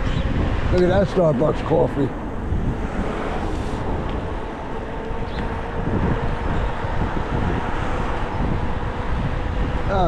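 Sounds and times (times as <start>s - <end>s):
street traffic: 0.0s - 10.0s
wind buffeting microphone: 0.0s - 10.0s.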